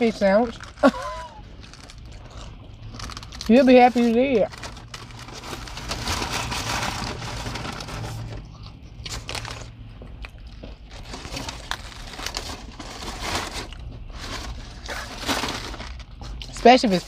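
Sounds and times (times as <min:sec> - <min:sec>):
paper wrappers crinkling: 0:00.0 - 0:09.8, 0:10.7 - 0:17.0.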